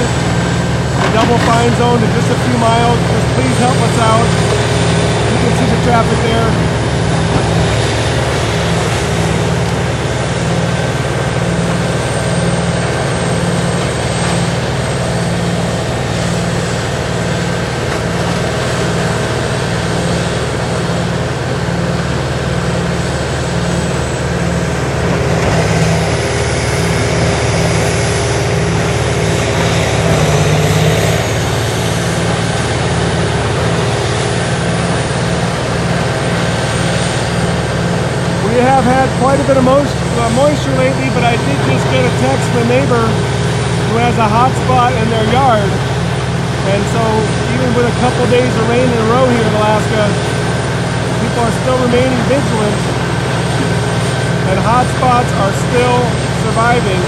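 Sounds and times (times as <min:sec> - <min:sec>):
diesel grinder droning: 0:00.0 - 0:57.0.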